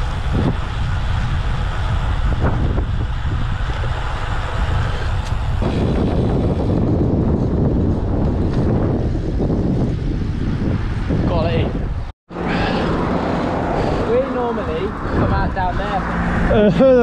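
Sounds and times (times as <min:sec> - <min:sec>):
tyre and road noise: 0:00.0 - 0:17.0
wind buffeting microphone: 0:00.0 - 0:17.0.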